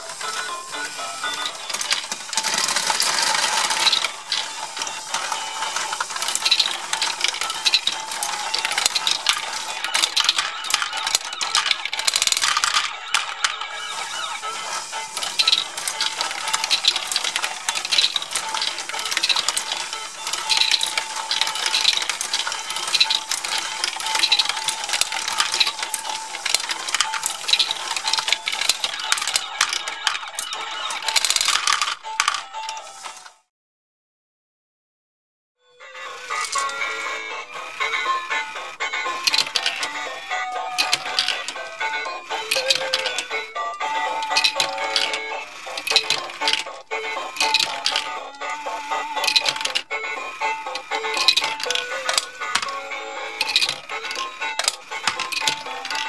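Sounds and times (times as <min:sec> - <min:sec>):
plastic balls clattering through pegs: 0:00.0 - 0:33.3, 0:36.3 - 0:56.0
plastic gears clicking: 0:00.0 - 0:33.4, 0:36.1 - 0:56.0.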